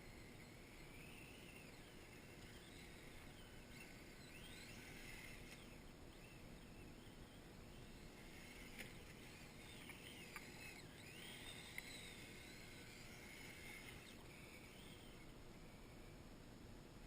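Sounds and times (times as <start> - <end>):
electric motor whine: 0.0 - 16.7.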